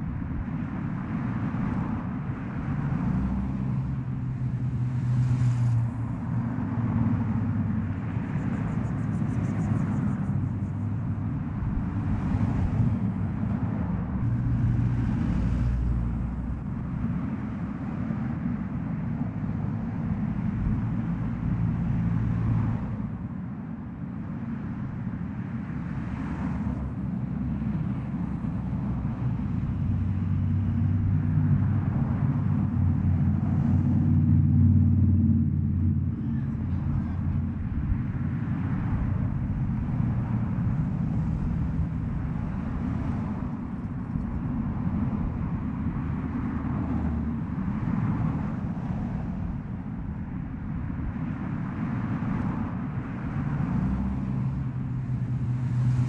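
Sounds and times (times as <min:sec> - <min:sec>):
steady low rumble: 0:00.0 - 0:25.3, 0:26.5 - 0:56.0.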